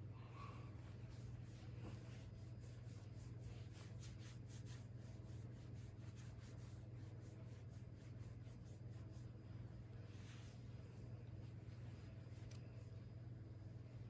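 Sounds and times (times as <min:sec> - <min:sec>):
steady low hum: 0:00.0 - 0:14.0
soft rustles on sweatshirt: 0:00.5 - 0:14.0.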